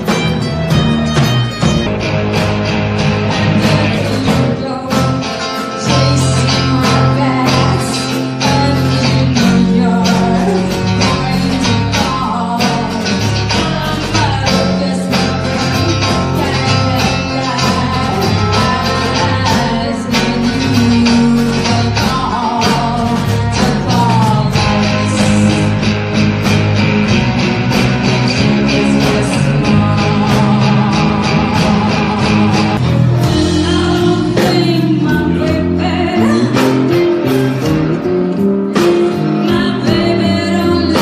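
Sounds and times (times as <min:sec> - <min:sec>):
drums: 0:00.0 - 0:41.0
electric guitar: 0:00.0 - 0:41.0
woman singing: 0:03.4 - 0:25.9, 0:28.4 - 0:38.0, 0:38.7 - 0:41.0.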